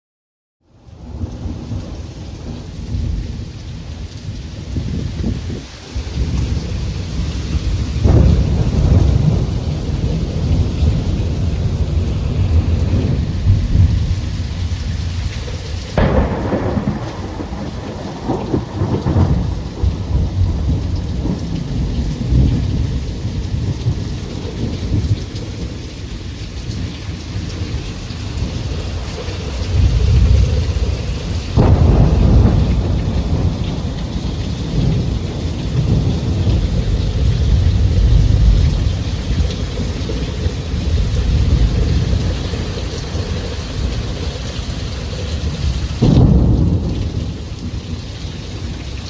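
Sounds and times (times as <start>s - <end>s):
steady rain: 0.6s - 49.0s
sharp close thunderclap: 1.0s - 15.2s, 16.0s - 25.8s, 28.4s - 43.1s, 45.6s - 48.0s
deep rolling thunder: 1.0s - 49.0s.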